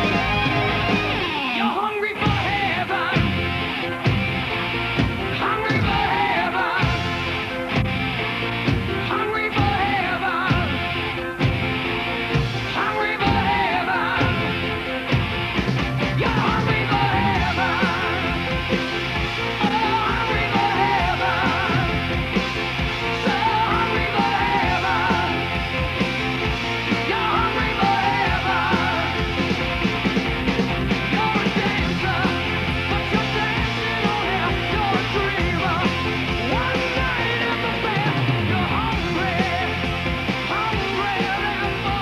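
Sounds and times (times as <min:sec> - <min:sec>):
rock music with singing: 0:00.0 - 0:42.0.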